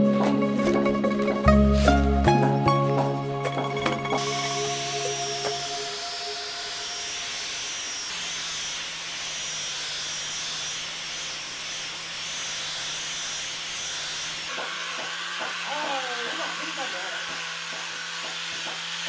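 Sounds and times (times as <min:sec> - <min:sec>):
orbital sander whirring: 0:00.2 - 0:19.0.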